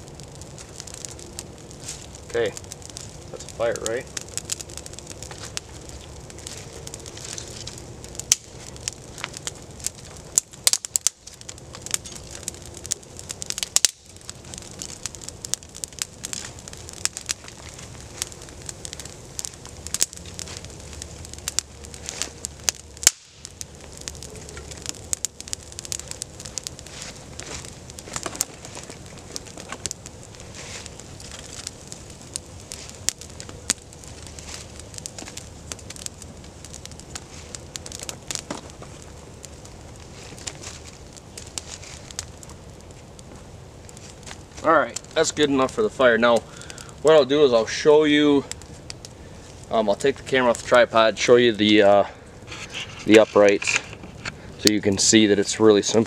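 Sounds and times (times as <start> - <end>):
campfire crackling and popping: 0.0 - 56.0
hiss of flame: 0.0 - 56.0.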